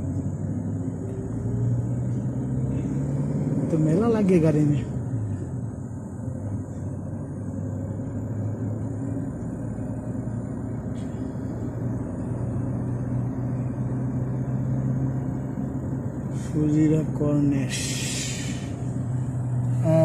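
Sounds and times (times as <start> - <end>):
road rumble: 0.0 - 20.0
vehicle engine hum: 0.0 - 20.0.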